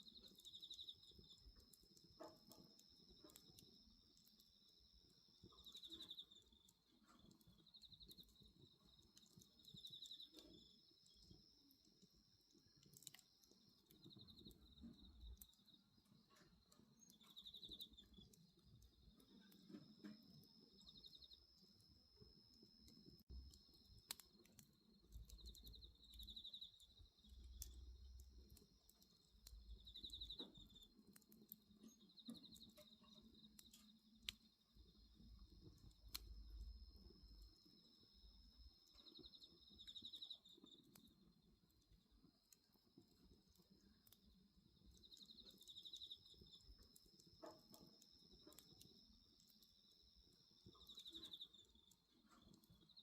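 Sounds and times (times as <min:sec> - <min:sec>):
bonfire crackling: 0:00.0 - 0:53.0
crickets chirping: 0:00.0 - 0:53.0.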